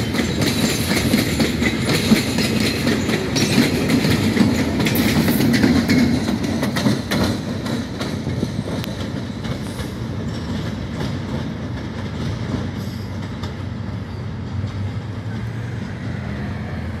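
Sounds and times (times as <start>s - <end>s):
wheels clicking over rail joints: 0.0s - 15.8s
freight train cars rolling past: 0.0s - 17.0s.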